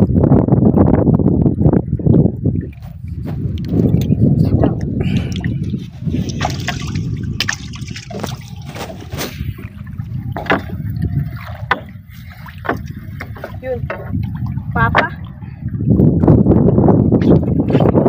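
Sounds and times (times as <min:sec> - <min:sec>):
water splashing and dripping: 0:01.4 - 0:17.6.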